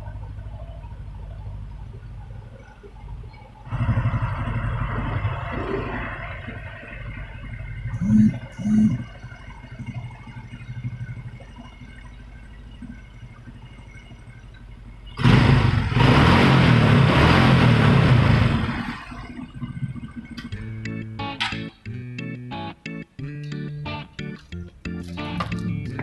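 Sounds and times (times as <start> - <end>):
motorcycle engine running: 0.0 - 21.5.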